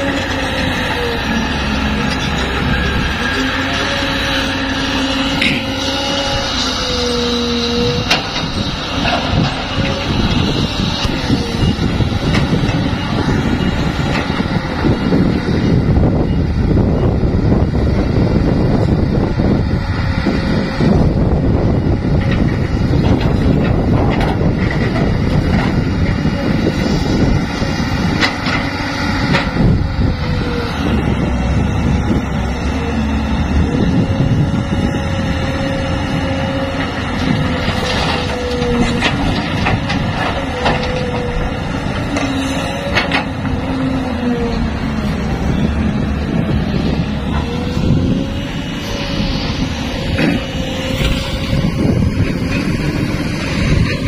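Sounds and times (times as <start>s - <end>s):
excavator diesel engine: 0.0s - 54.0s
hydraulic whine: 0.0s - 54.0s.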